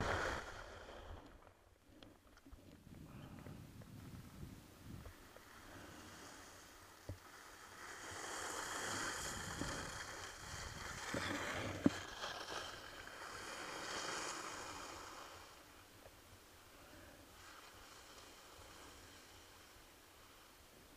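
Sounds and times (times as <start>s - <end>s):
skis scraping on packed snow: 0.0s - 1.5s, 3.0s - 15.9s, 16.8s - 20.7s.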